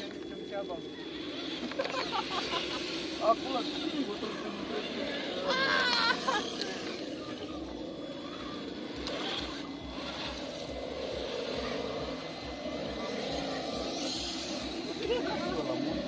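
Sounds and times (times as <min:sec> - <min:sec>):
toy car motor whirring: 0:00.0 - 0:16.0.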